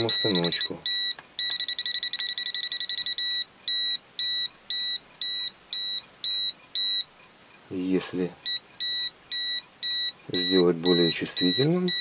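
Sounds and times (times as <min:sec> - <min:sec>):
high-pitched voltage tester beeps: 0:00.0 - 0:07.1, 0:08.4 - 0:12.0.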